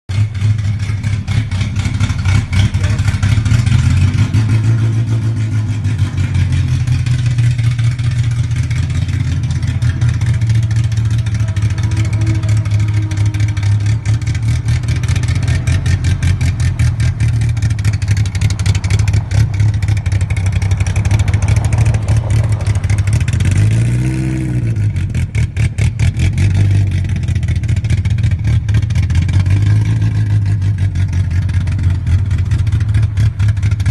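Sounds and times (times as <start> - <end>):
car engine running loudly: 0.1 - 33.9.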